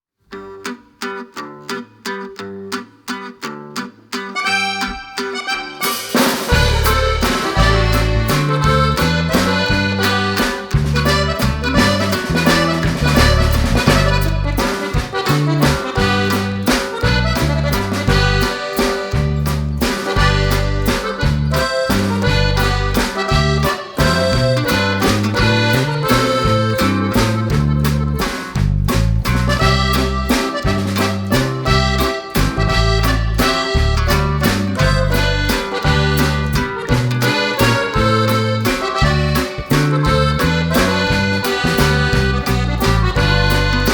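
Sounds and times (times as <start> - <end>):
upbeat accordion tune with bass: 4.4 - 43.9.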